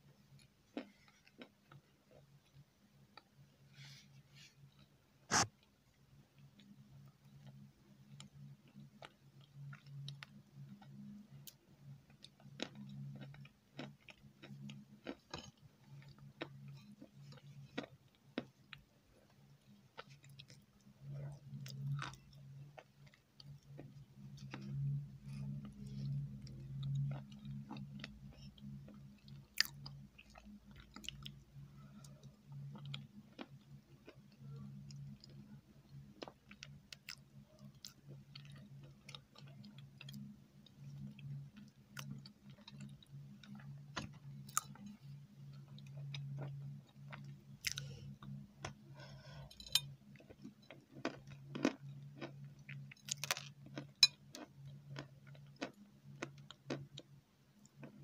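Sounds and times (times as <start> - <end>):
low steady hum: 0.0 - 58.0
chewing and wet mouth sounds: 0.3 - 3.3, 6.4 - 58.0.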